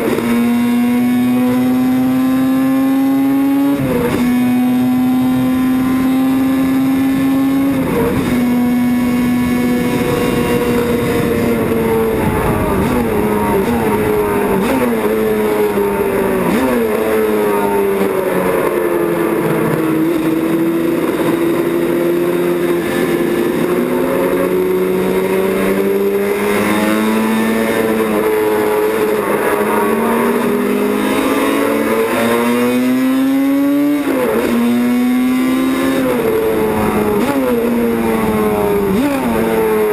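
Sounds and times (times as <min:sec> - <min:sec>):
racing motorcycle engines revving: 0:00.0 - 0:39.9.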